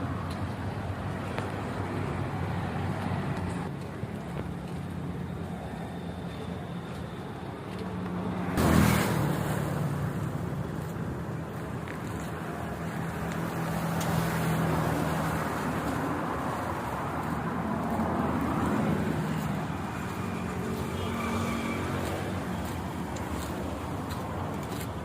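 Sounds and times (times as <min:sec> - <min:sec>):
passing road traffic: 0:00.0 - 0:25.0.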